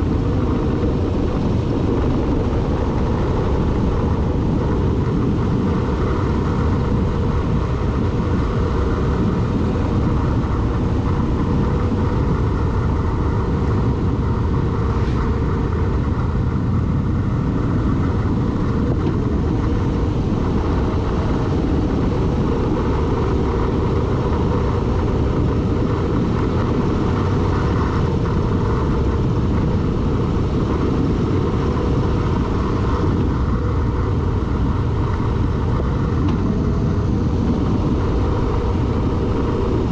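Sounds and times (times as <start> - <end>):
road noise: 0.0 - 39.9
vehicle engine running: 0.0 - 39.9
wind noise: 0.0 - 39.9.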